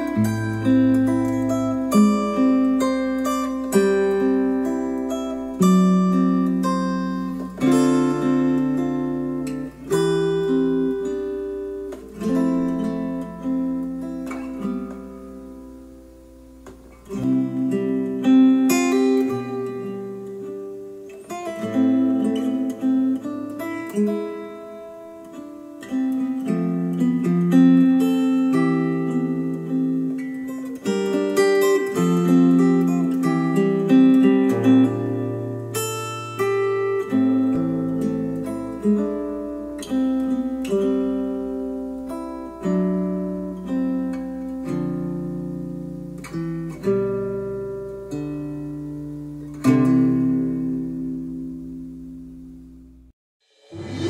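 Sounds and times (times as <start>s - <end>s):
acoustic guitar music from speakers: 0.0s - 53.1s.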